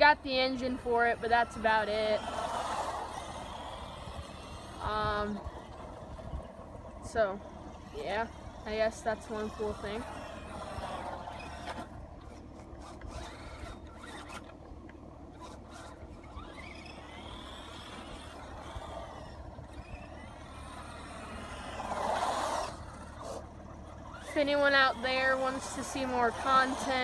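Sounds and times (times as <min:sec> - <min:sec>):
electric motor whining: 0:00.0 - 0:27.0
tyres and drivetrain noise: 0:00.0 - 0:27.0.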